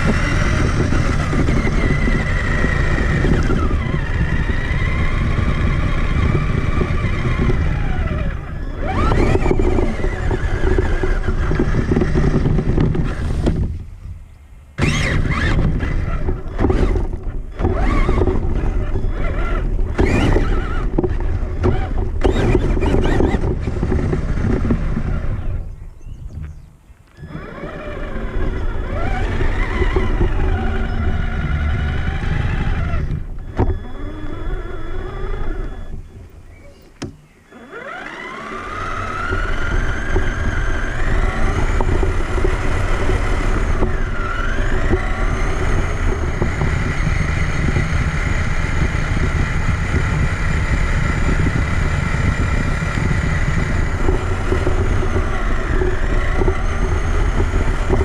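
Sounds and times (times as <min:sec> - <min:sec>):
electric motor whining: 0:00.0 - 0:58.0
tyres rumbling on ground: 0:00.0 - 0:58.0.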